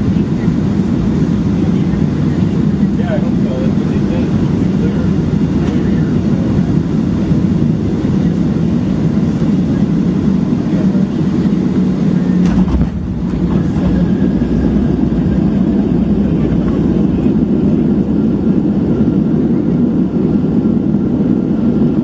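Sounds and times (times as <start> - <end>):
airplane cabin low rumble: 0.0 - 22.0.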